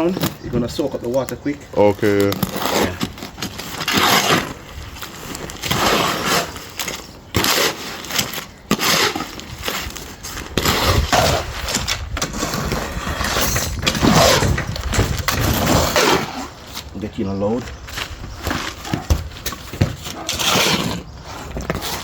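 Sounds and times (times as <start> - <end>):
shovel scraping wet cement: 2.1 - 17.0, 18.4 - 22.0.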